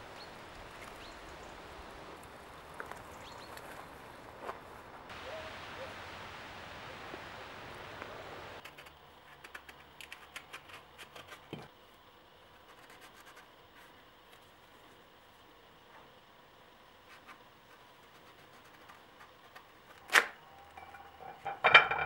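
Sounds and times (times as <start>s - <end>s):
outdoor hiss: 0.0s - 21.9s.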